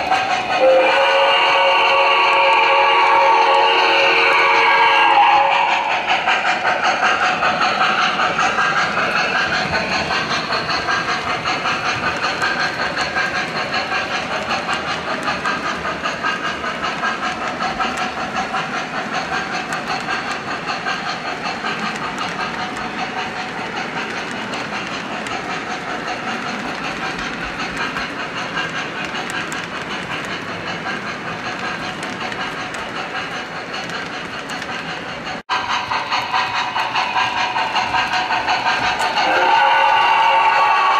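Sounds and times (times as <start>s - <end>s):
model train rolling: 0.0s - 40.9s.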